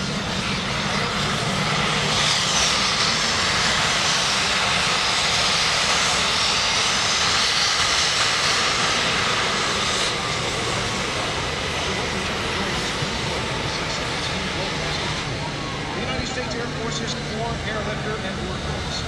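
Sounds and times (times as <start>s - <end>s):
jet engines rumbling with whine: 0.0s - 19.0s.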